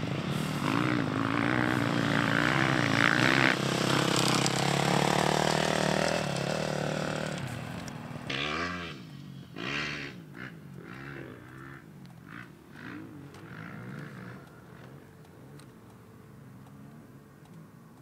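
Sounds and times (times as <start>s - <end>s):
dirt bike engine revving: 0.0s - 9.0s, 9.6s - 15.2s.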